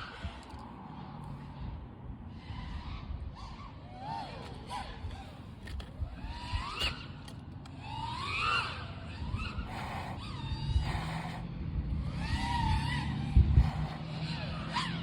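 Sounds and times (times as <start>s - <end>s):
drone motors whining: 0.0s - 15.0s
low wind rumble: 0.0s - 15.0s.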